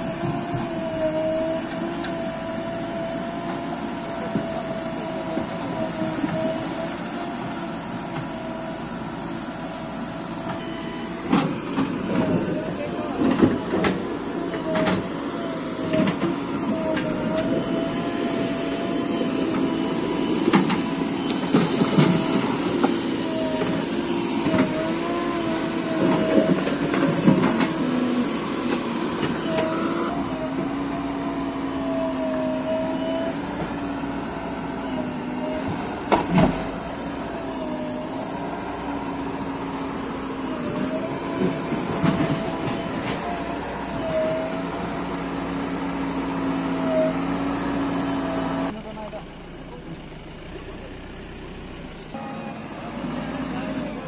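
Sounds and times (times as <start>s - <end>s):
whine shifting in pitch: 0.0s - 48.8s
diesel engine running under load: 0.0s - 54.0s.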